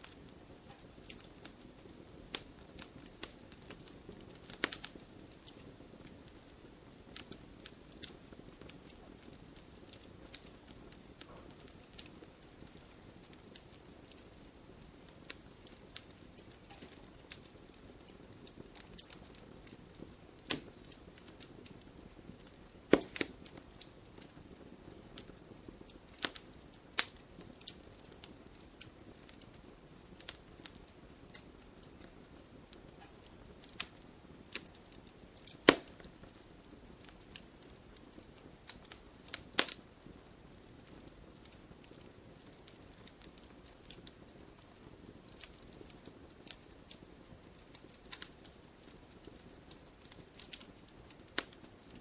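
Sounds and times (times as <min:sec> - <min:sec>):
campfire crackling and popping: 0:00.0 - 0:52.0
low hiss of flame: 0:00.0 - 0:52.0.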